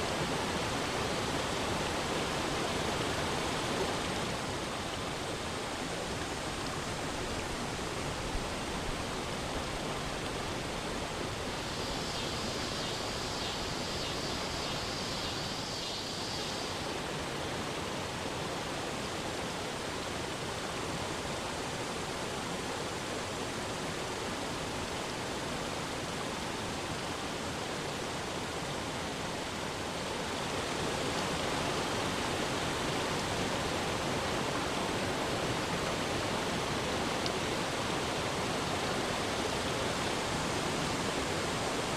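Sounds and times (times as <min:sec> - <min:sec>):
waterfall rushing over rocks: 0:00.0 - 0:41.9.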